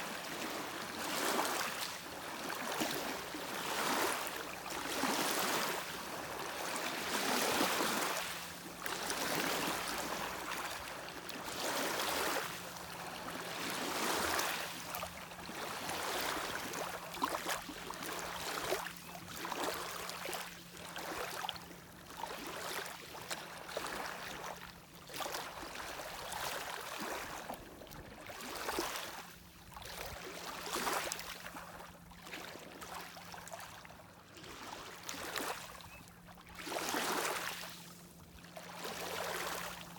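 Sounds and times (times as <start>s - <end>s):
lake waves lapping against shore: 0.0s - 39.9s.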